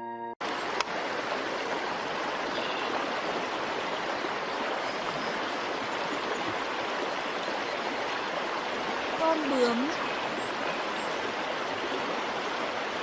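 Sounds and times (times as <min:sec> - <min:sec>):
running water rushing: 0:00.4 - 0:13.0.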